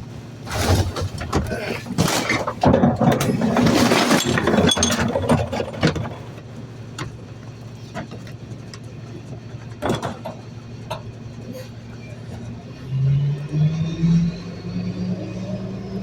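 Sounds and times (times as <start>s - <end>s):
truck engine running: 0.0s - 3.6s, 5.1s - 16.0s
garbage truck clatter and rush: 0.0s - 16.0s.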